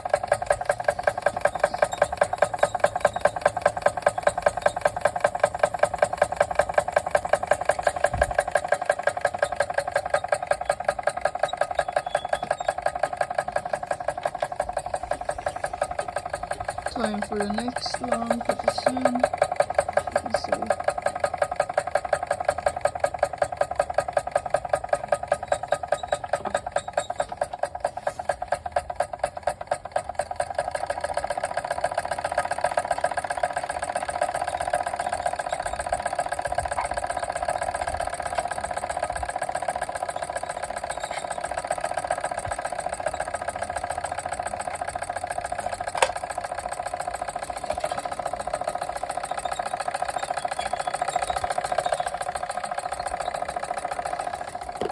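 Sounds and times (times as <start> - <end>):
model steam engine running: 0.0 - 54.9.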